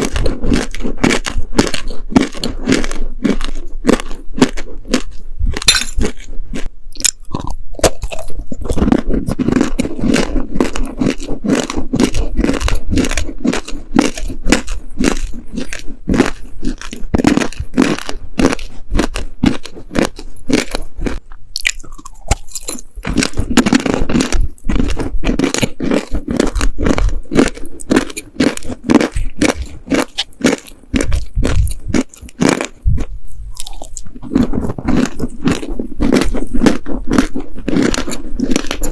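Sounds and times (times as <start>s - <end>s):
crunchy cookies being chewed: 0.0s - 38.9s.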